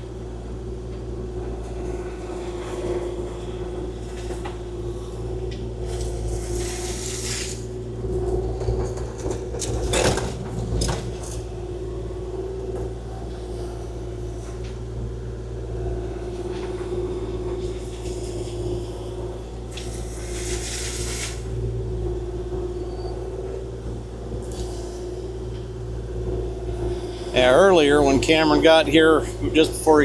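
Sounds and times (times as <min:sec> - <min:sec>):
mini excavator running: 0:00.0 - 0:30.0.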